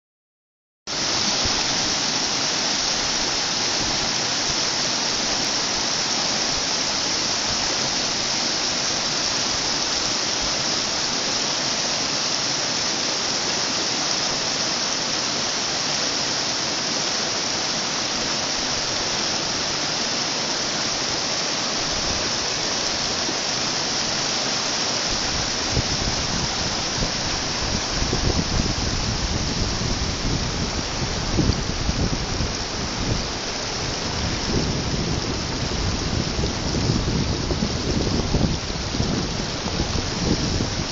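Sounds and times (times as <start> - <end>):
stream rushing over rocks: 0.9 - 40.9.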